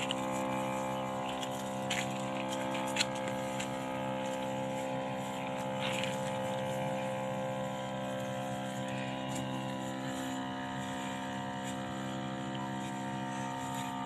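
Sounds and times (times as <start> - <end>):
electric sprayer pump humming: 0.0 - 14.0.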